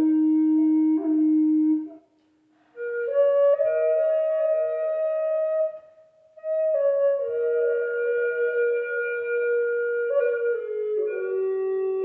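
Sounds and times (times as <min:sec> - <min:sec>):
wooden flute melody: 0:00.0 - 0:12.0.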